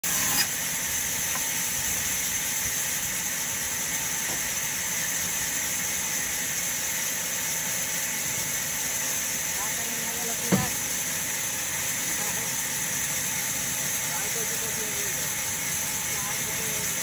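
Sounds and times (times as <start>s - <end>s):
band saw hissing: 0.0s - 17.0s.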